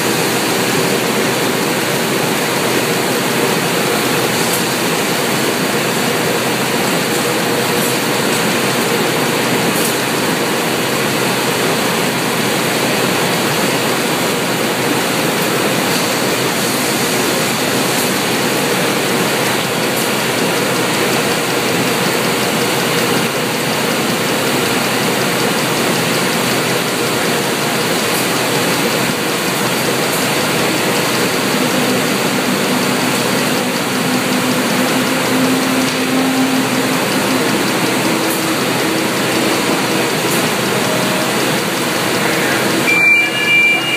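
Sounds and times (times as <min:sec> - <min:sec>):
roller conveyors and robot arm: 0:00.0 - 0:43.9
steady machine hum: 0:00.0 - 0:43.9.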